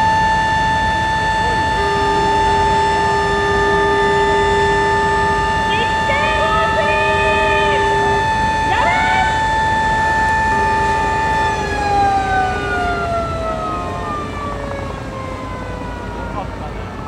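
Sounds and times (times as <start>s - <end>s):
fire engine sirens: 0.0s - 17.0s.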